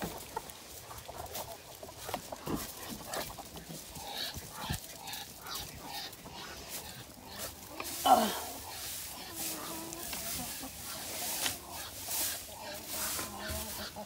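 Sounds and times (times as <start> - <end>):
chickens clucking: 0.0 - 14.0
rustling in straw: 0.0 - 14.0.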